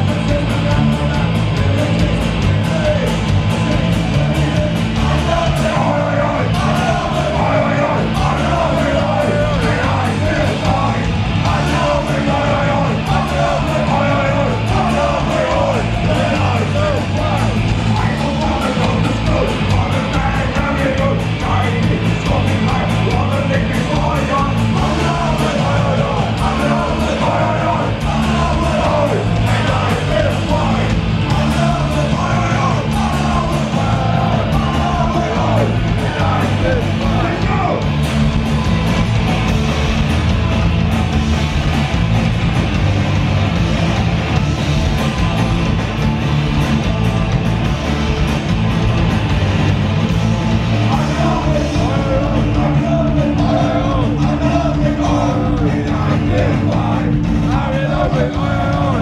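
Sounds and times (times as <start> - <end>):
shouted vocals: 0.0 - 48.4, 50.4 - 59.0
punk rock band playing: 0.0 - 59.0.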